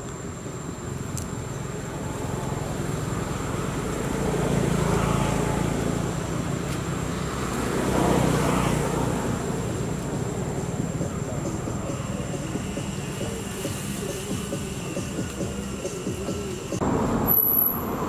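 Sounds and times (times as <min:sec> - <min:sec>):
vehicles passing with engine rumble: 0:00.0 - 0:18.0.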